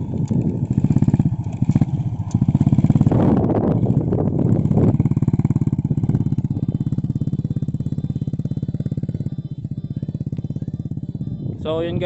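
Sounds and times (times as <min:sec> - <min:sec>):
motorcycle engine putter: 0:00.0 - 0:12.0.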